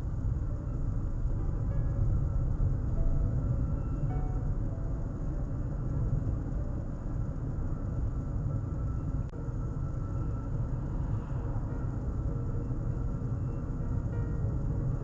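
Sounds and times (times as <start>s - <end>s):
car rumbling on the move: 0.0s - 15.0s.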